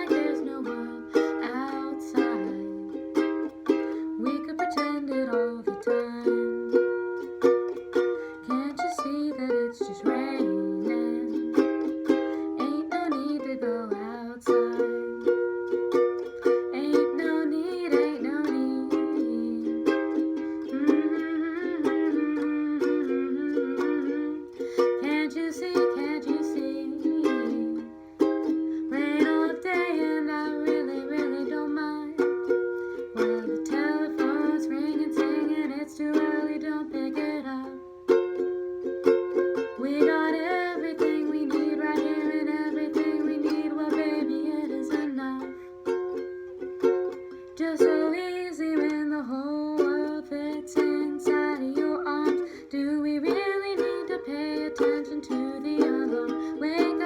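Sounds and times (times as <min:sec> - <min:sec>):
ukulele strumming: 0:00.0 - 0:57.0.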